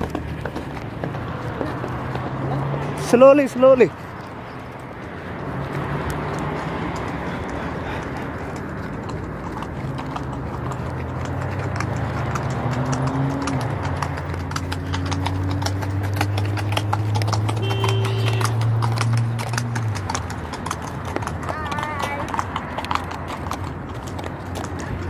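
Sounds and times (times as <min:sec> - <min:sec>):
horse hooves clip-clopping on dirt: 0:00.0 - 0:25.0.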